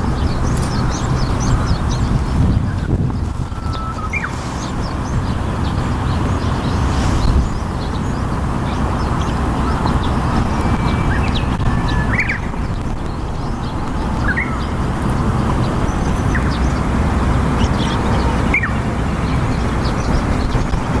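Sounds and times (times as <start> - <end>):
bird chirps: 0.0 - 16.9, 17.6 - 20.7
low outdoor rumble: 0.0 - 21.0.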